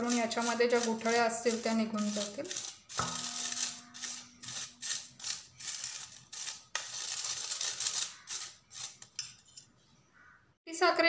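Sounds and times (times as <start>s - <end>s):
sugar sifted through mesh sieve: 0.0s - 9.1s.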